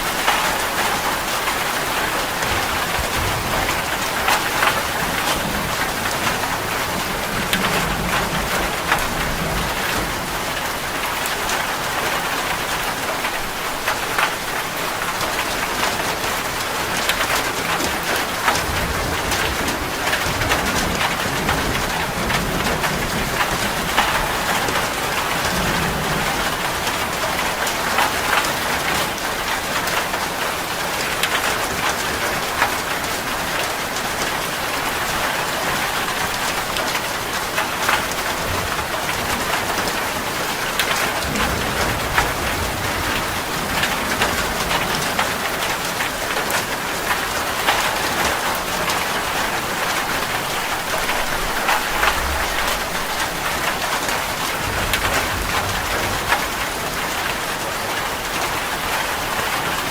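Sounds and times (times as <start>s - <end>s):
thunder rumbling: 0.0s - 14.2s, 15.0s - 30.0s, 35.0s - 59.9s
heavy rain on a metal roof: 0.0s - 59.9s.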